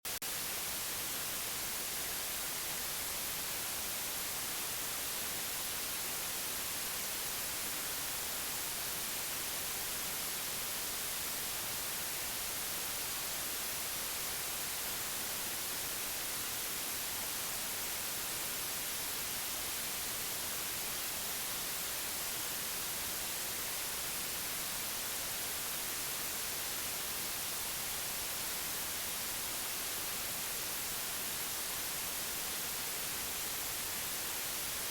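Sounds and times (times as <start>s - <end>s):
white noise hiss: 0.1s - 34.9s.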